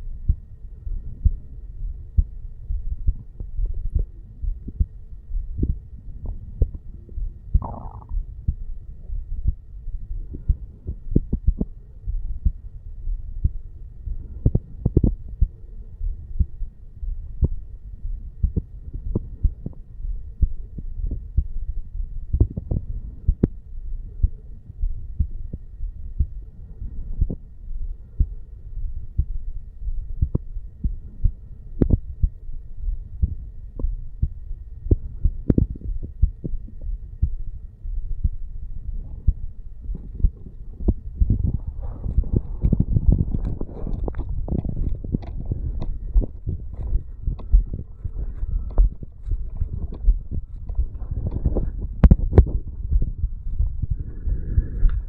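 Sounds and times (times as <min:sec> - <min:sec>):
heartbeat thumps: 0:00.0 - 0:55.0
low hum: 0:00.0 - 0:55.0.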